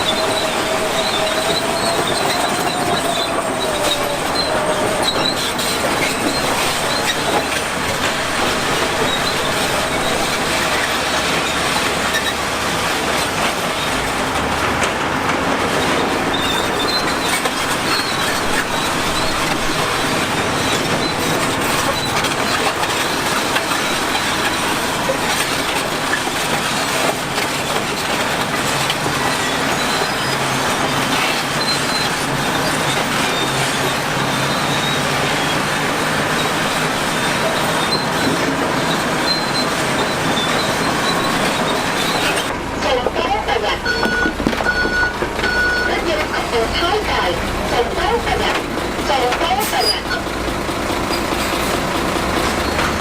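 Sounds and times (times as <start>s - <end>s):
diesel engine running: 0.0s - 53.0s
steel tracks squealing and clanking: 0.0s - 53.0s.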